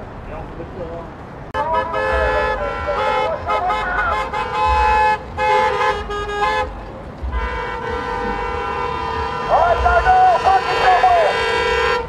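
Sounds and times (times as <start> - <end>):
vehicle engines rumbling: 0.0 - 12.0
car horns honking: 1.5 - 12.0.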